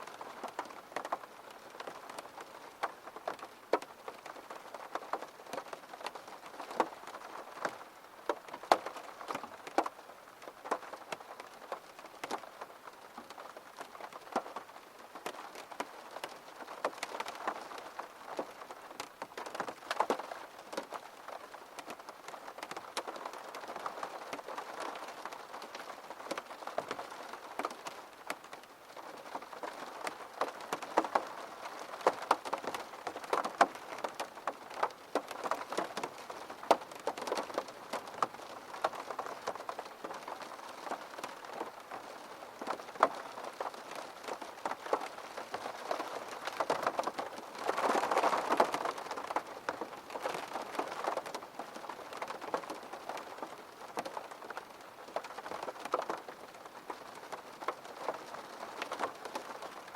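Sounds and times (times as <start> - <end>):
steady rain with dripping ticks: 0.0 - 59.9.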